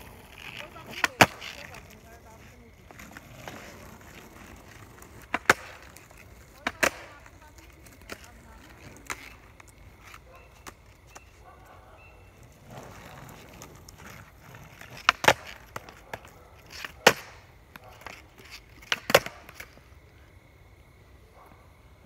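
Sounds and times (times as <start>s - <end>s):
light skateboard clacks: 0.0s - 20.4s
skateboard popping and slapping ground: 0.0s - 20.6s
skateboard wheels rolling on asphalt: 0.0s - 22.0s.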